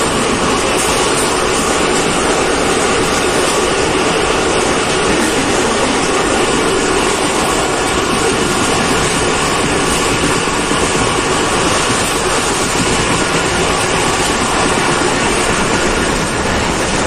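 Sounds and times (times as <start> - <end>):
rushing air: 0.0 - 17.0
train wheels rolling on rails: 0.0 - 17.0.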